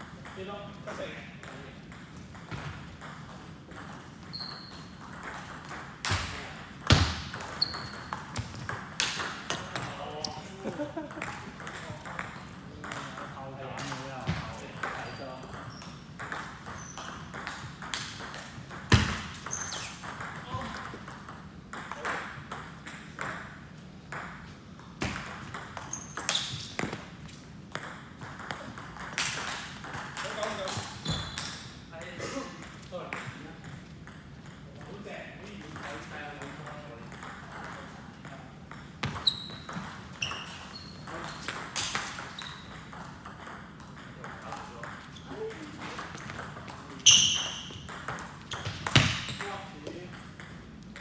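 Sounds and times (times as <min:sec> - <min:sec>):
ping pong ball hitting paddles: 0:00.0 - 0:10.4, 0:11.1 - 0:31.7, 0:32.6 - 0:51.0
ball bouncing on table: 0:01.9 - 0:10.0, 0:11.1 - 0:23.5, 0:24.1 - 0:27.1, 0:27.7 - 0:31.6, 0:35.7 - 0:51.0.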